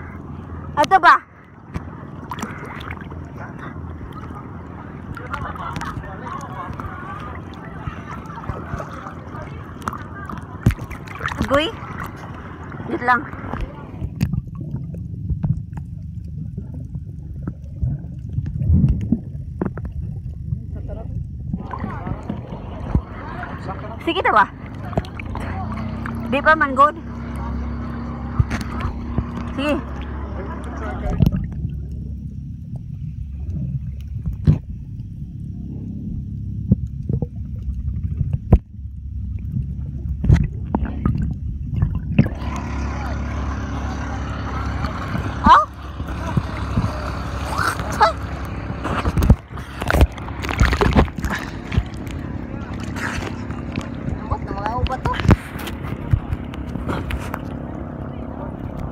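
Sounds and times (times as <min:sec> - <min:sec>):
water churning underwater: 0:00.0 - 0:58.9.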